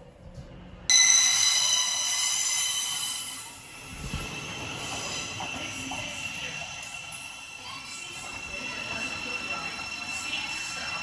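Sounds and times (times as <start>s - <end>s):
train wheels squealing: 0.9s - 11.0s.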